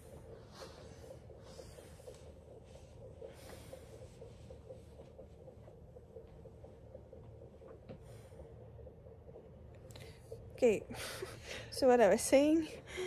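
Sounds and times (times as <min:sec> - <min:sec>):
woman breathing slowly: 0:00.0 - 0:11.8, 0:12.7 - 0:13.0
faint steady hum: 0:00.0 - 0:13.0.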